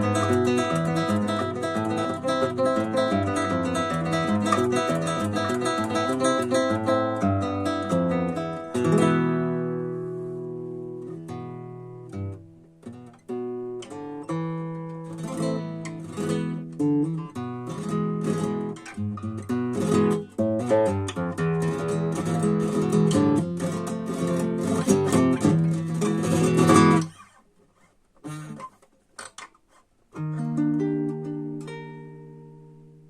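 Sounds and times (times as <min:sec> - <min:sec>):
classical guitar playing: 0:00.0 - 0:33.0.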